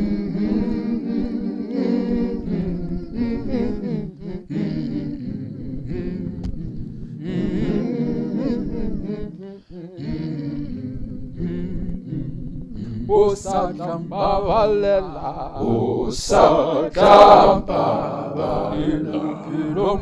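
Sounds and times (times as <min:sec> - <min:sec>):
male voices humming a hymn: 0:00.0 - 0:20.0.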